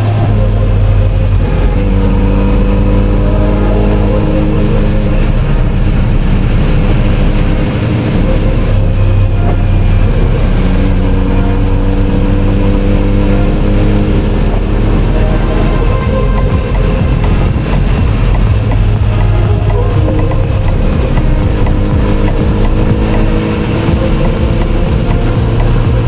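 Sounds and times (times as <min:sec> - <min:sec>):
motorcycle engine cruising: 0:00.0 - 0:26.0.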